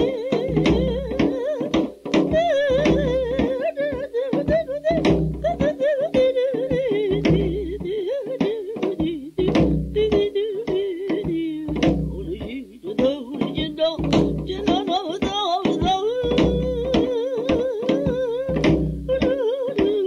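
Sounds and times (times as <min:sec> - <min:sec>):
percussion strikes and deep beat: 0:00.0 - 0:20.0
person singing with vibrato: 0:00.0 - 0:20.0.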